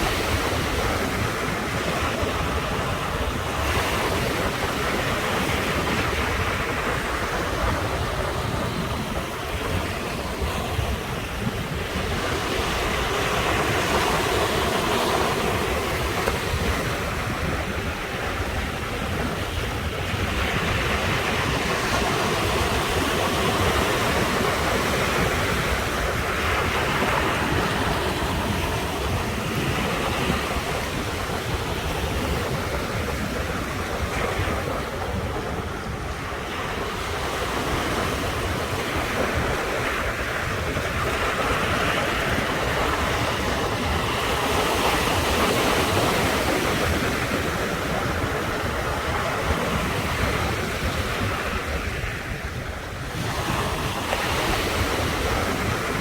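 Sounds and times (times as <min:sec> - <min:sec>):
ocean waves breaking on shore: 0:00.0 - 0:56.0
wind rumbling on microphone: 0:00.0 - 0:56.0.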